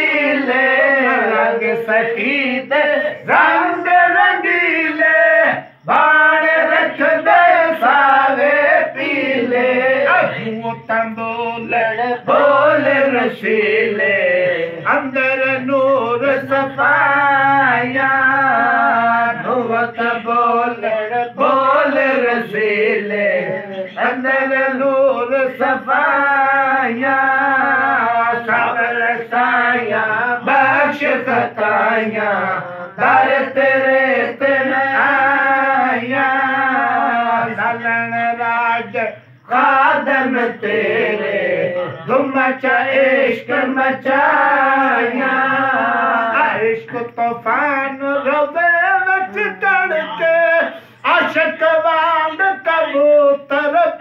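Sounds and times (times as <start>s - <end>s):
man singing devotional chant: 0.0s - 54.0s.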